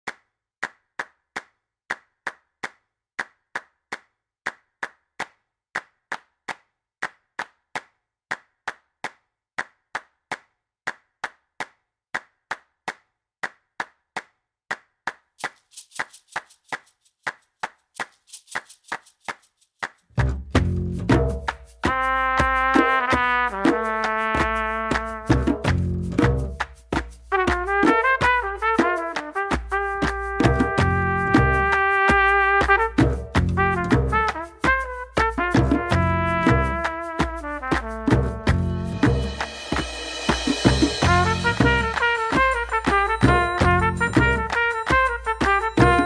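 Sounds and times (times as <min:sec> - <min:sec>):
hands clapping rhythm: 0:00.0 - 0:46.0.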